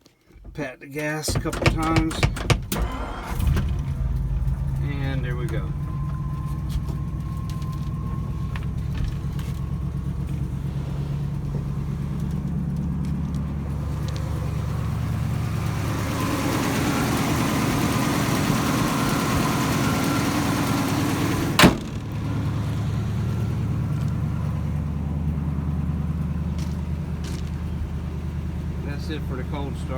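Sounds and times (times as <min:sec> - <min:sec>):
engine running steadily: 0:01.3 - 0:29.9.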